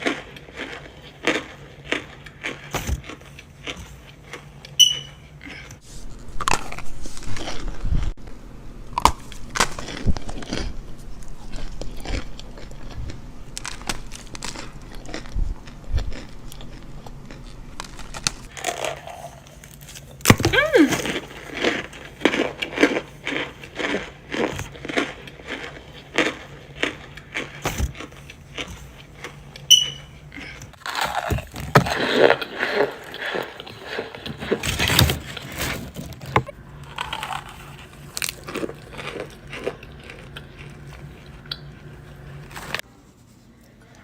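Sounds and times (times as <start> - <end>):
chewing crunches: 0.0 - 8.2, 8.9 - 42.8.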